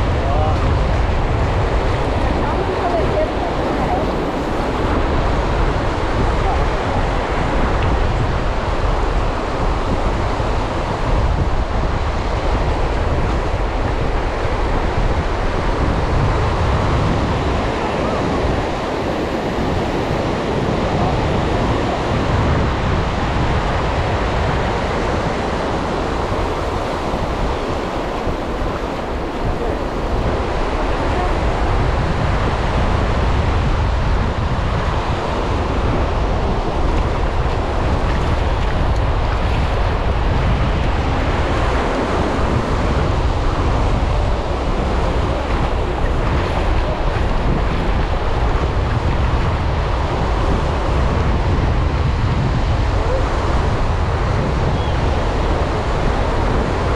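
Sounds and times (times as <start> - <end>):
surf washing onto beach: 0.0 - 56.9
wind rumbling on microphone: 0.0 - 56.9.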